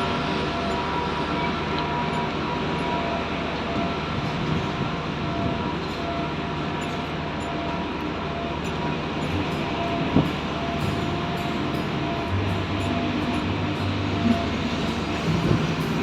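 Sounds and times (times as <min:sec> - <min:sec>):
faint whining tones: 0:00.0 - 0:16.0
train rumbling: 0:00.0 - 0:16.0.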